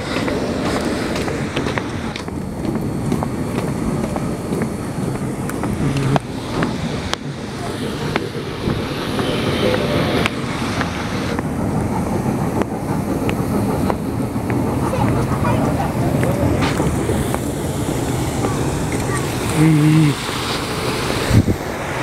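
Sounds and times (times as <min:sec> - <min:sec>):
small train rumbling over paving: 0:00.0 - 0:22.0
wind on microphone: 0:00.0 - 0:22.0.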